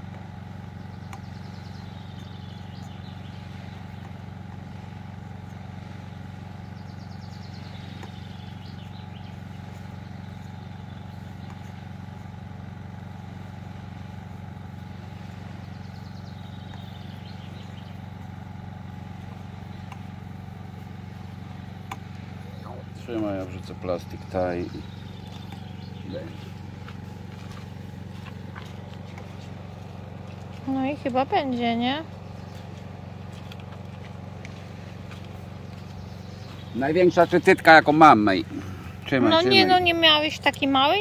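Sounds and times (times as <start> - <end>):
low motor hum: 0.0 - 41.0.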